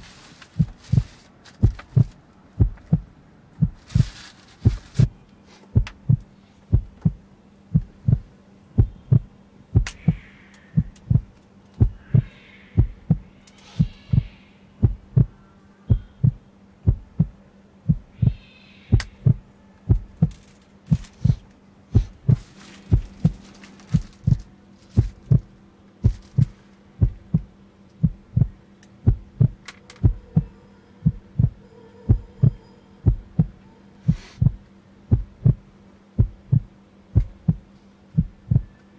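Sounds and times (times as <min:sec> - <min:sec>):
heartbeat thumps: 0:00.0 - 0:38.8
steady low hum: 0:00.0 - 0:38.9
faint high droning tones: 0:01.9 - 0:38.9.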